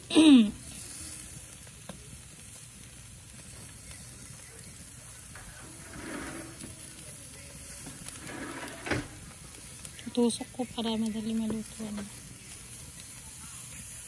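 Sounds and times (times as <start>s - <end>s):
fish sizzling on a grill: 0.0s - 14.0s.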